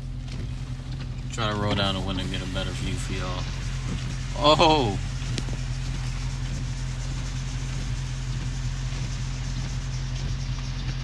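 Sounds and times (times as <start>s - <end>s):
car engine idling: 0.0s - 11.0s
rain hiss: 0.1s - 10.8s.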